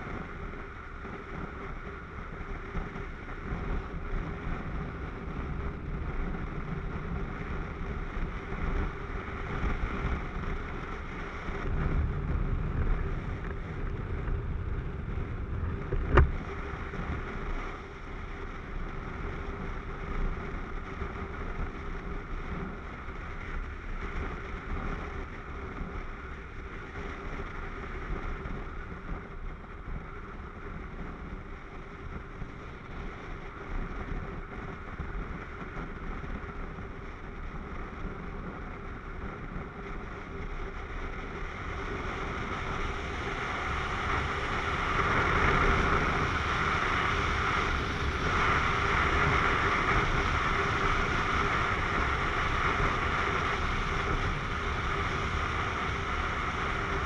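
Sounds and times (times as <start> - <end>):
motorcycle engine running: 0.0 - 57.0
wind rushing over camera: 0.0 - 57.0.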